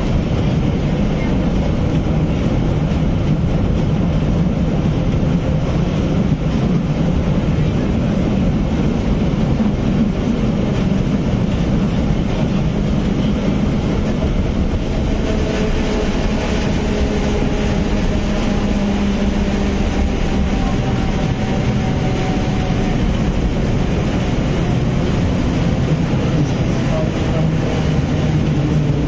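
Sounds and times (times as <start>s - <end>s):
tram rumbling on rails: 0.0s - 29.0s.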